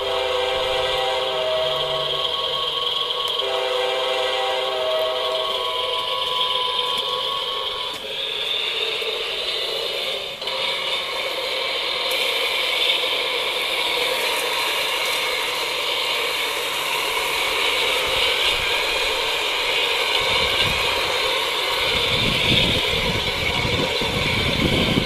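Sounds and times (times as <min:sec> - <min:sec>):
model locomotive engine drone: 0:00.0 - 0:25.0.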